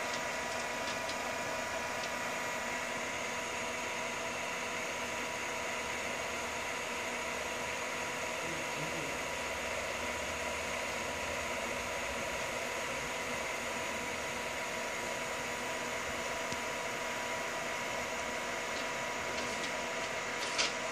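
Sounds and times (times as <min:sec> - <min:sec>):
thin electrical whine: 0:00.0 - 0:20.9.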